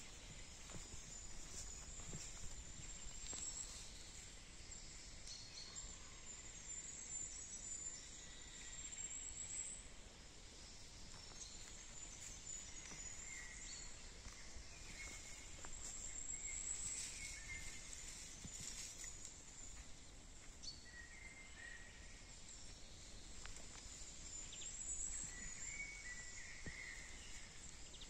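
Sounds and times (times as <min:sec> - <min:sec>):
faint footsteps on path: 0:00.0 - 0:05.6, 0:09.8 - 0:28.0.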